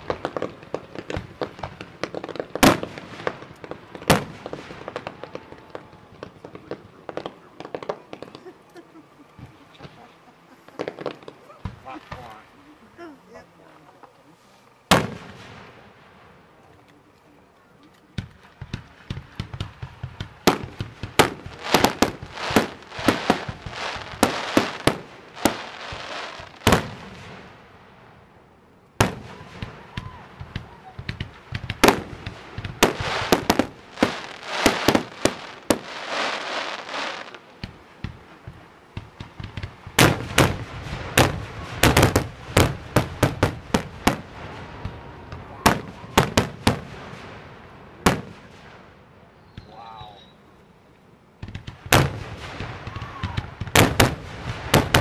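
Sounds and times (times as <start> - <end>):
firework crackling: 0.0 - 50.5, 51.4 - 55.0.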